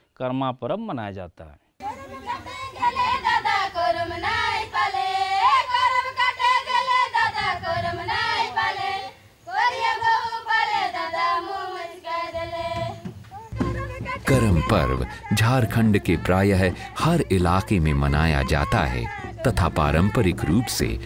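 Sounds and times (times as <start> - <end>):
women singing folk song: 1.8 - 21.0.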